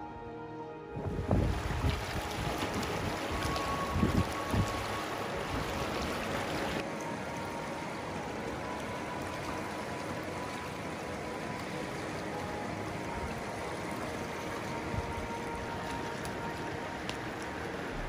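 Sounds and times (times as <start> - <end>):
river rushing: 0.9 - 18.0.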